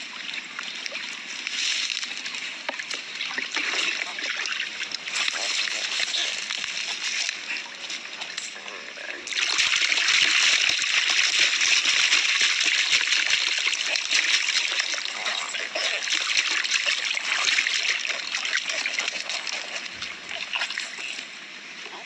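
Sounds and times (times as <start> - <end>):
water splashing and pouring: 0.0 - 21.5.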